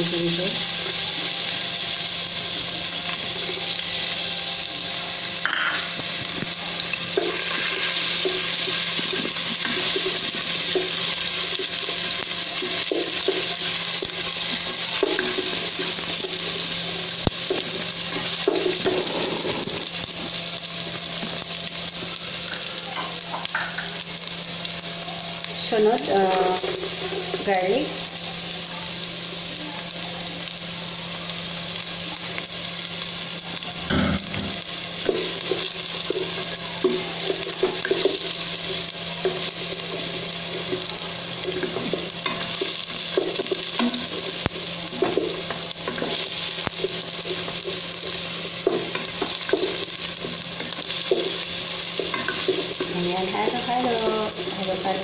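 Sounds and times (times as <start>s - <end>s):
garlic sizzling in hot oil: 0.0s - 55.0s.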